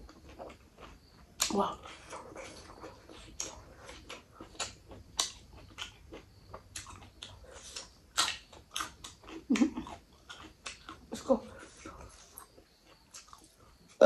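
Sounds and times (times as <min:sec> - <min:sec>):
close-up chewing: 0:00.0 - 0:14.0.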